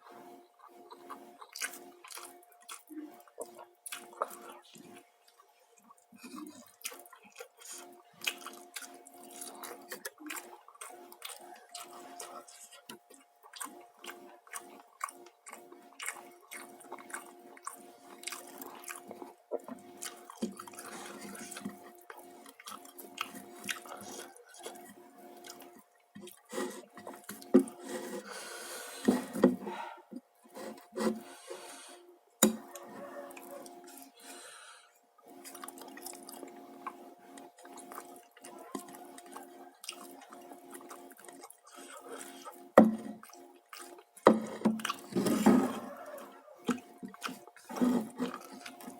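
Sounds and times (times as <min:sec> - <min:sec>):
faint steady hum: 0:00.0 - 0:48.9
wet chewing and lip-smacking: 0:00.1 - 0:29.7, 0:30.5 - 0:48.9.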